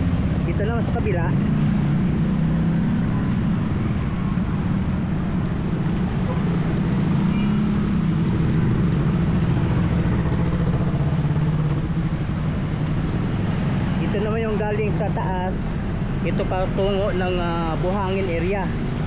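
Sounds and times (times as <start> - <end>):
traffic engines droning: 0.0 - 19.0.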